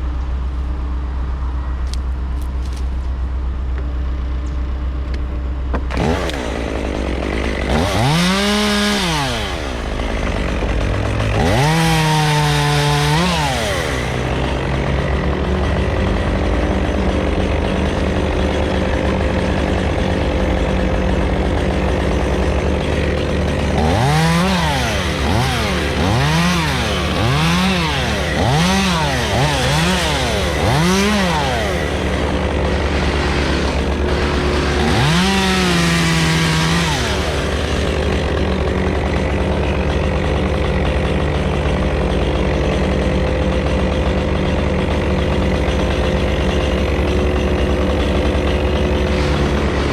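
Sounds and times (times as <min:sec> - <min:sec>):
chainsaw idling and revving: 0:05.7 - 0:49.9.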